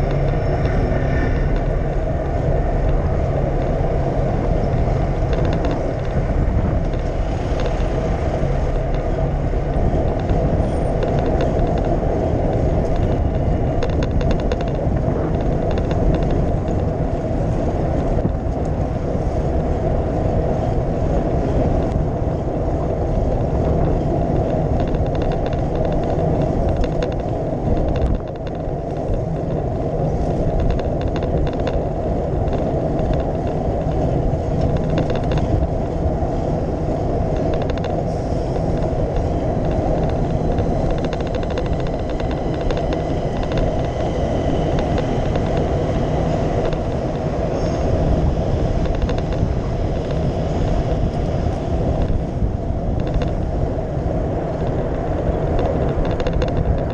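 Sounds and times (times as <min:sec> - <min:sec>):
faint ticks and rattles: 0:00.0 - 0:56.9
wind and road rumble: 0:00.0 - 0:56.9.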